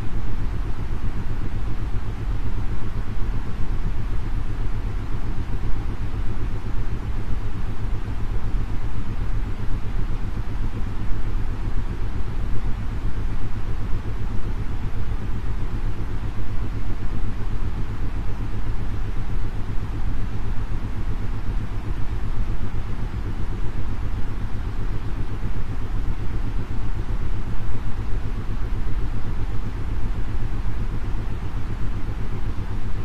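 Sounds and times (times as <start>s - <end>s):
white noise: 0.0s - 33.0s.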